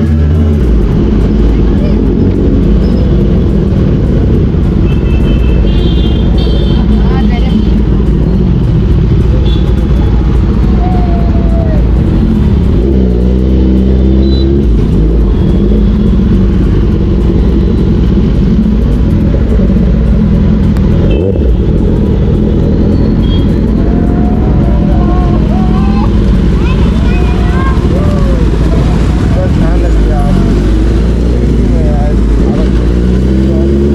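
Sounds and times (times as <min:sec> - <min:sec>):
motorcycle engine low rumble: 0:00.0 - 0:33.9.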